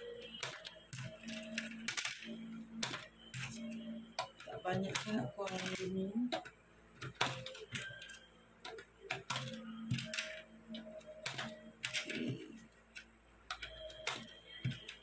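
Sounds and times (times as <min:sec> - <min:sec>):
soft background music: 0:00.0 - 0:15.0
coins clinking: 0:00.1 - 0:12.6, 0:13.5 - 0:15.0.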